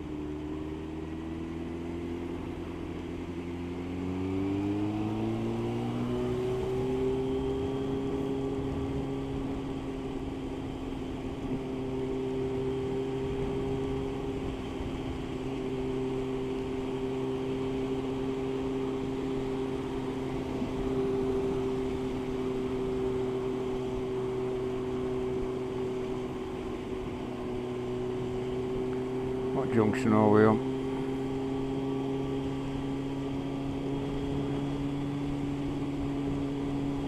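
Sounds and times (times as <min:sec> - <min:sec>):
motorcycle engine cruising: 0:00.0 - 0:37.0
wind and road noise: 0:00.0 - 0:37.0.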